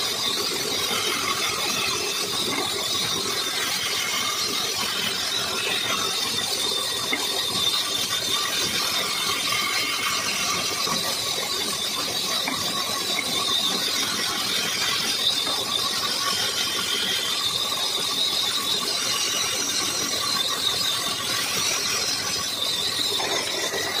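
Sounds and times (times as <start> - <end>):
band saw cutting wood: 0.0 - 24.0.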